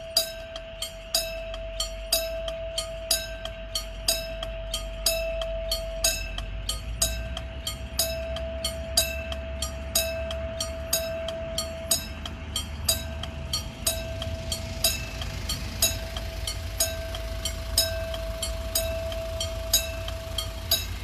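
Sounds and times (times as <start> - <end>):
level-crossing alarm bell ringing: 0.0 - 21.0.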